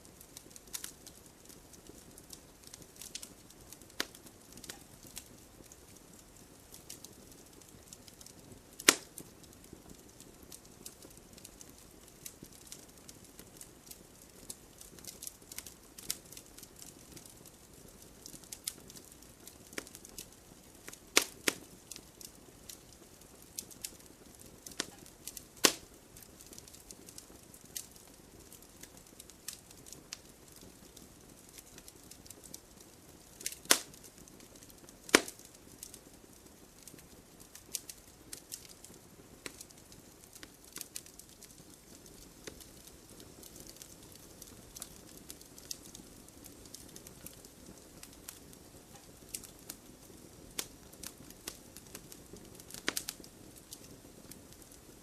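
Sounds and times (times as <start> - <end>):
campfire crackling and popping: 0.0 - 55.0
faint steady hiss: 0.0 - 55.0.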